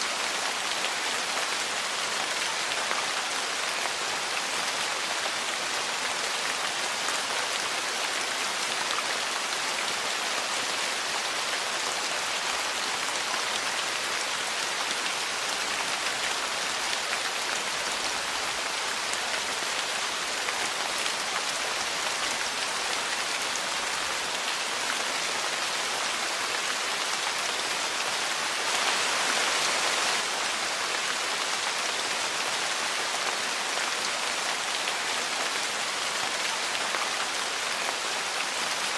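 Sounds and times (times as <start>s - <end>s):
rain falling on a porch: 0.0s - 38.9s.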